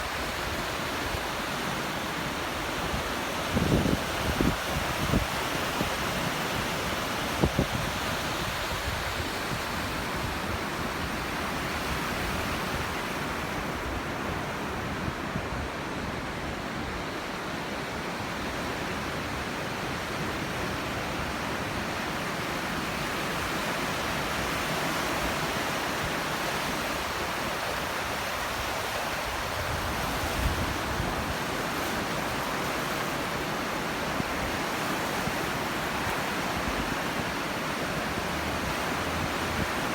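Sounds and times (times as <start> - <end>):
sea surf washing ashore: 0.0 - 39.9.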